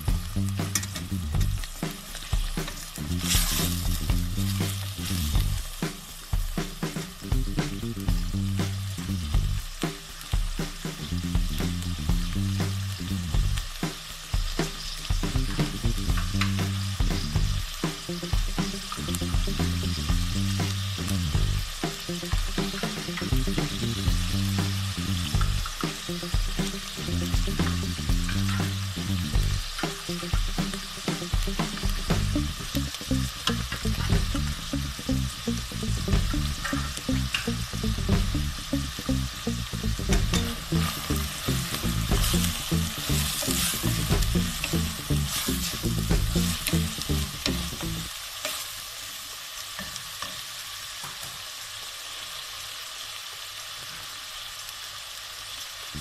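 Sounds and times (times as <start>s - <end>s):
meat sizzling in oil: 0.0s - 56.0s.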